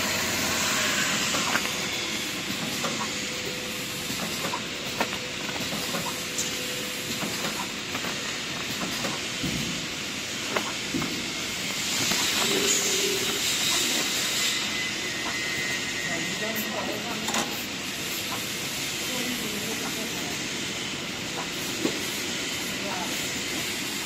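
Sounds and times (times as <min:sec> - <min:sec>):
machine hissing: 0:00.0 - 0:24.0.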